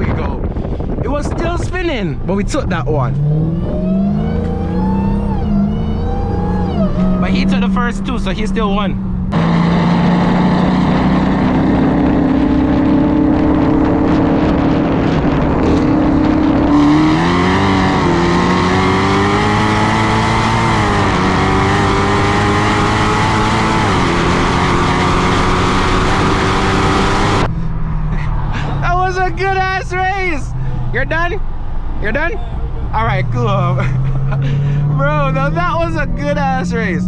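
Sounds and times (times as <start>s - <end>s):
car engine revving: 0.1s - 37.0s.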